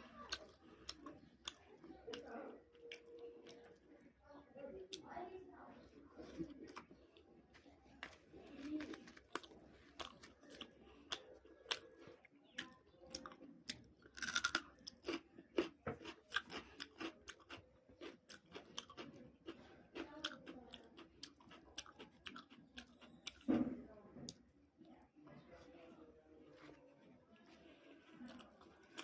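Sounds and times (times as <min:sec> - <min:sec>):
wet chewing sounds: 0:00.0 - 0:04.2, 0:05.8 - 0:23.5, 0:26.5 - 0:29.0.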